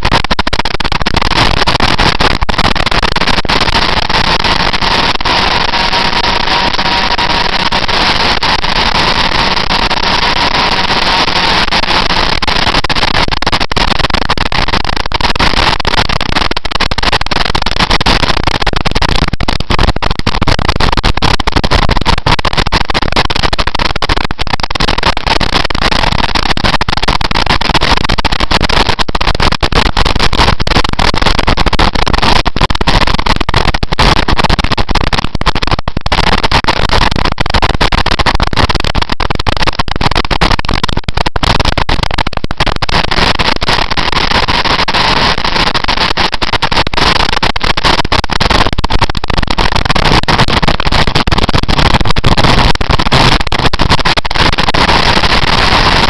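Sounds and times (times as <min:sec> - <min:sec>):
wind rush over microphone: 0:00.0 - 0:56.0.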